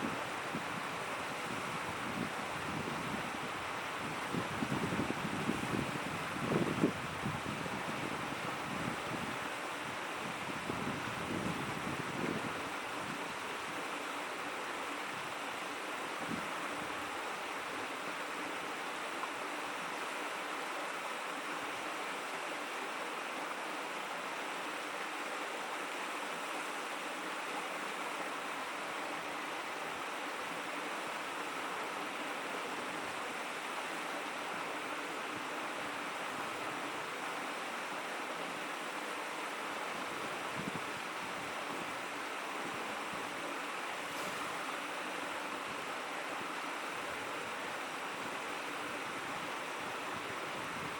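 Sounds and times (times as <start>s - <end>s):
river rushing over stones: 0.0s - 50.9s.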